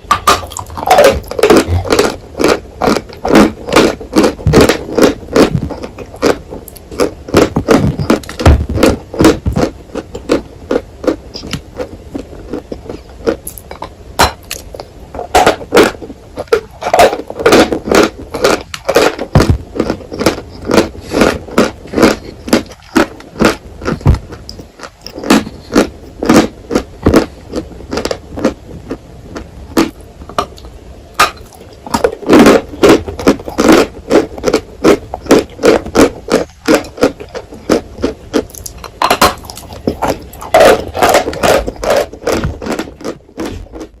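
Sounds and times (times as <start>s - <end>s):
chalk crunching being chewed: 0.2s - 13.7s, 14.4s - 30.0s, 31.4s - 44.0s.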